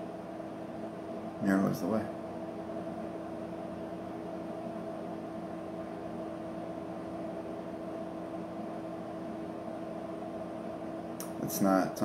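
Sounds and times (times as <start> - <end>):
appliance mechanical hum: 0.0 - 12.0.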